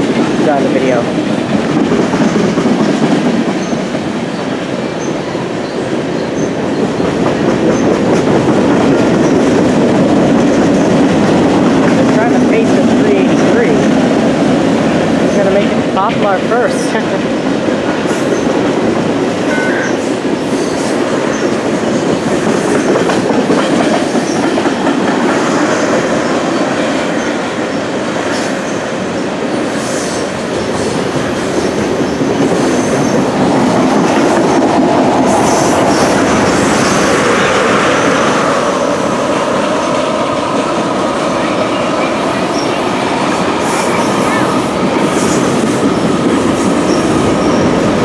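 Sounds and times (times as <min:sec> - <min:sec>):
freight train rumbling: 0:00.0 - 0:48.0.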